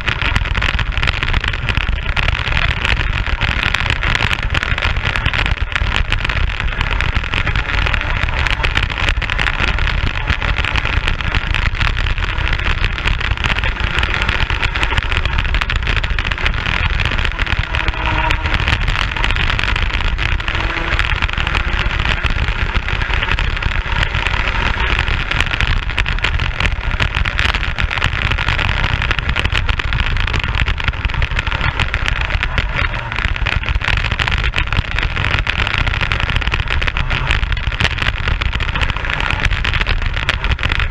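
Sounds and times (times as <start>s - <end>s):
kart engine running hard: 0.0s - 40.9s
wind rumble on microphone: 0.0s - 40.9s.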